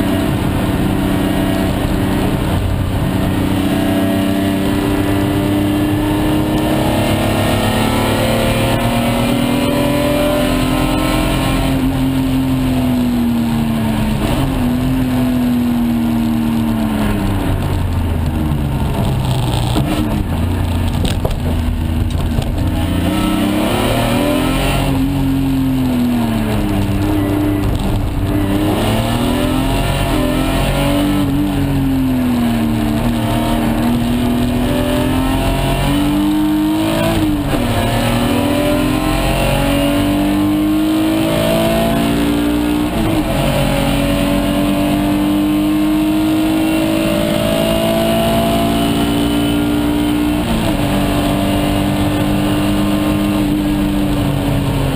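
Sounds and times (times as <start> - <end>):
car engine revving in cabin: 0.0 - 54.9.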